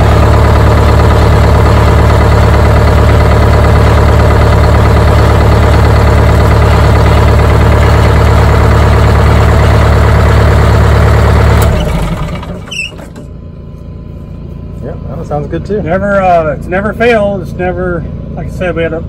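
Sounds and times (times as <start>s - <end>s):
bus engine idling: 0.0s - 16.8s.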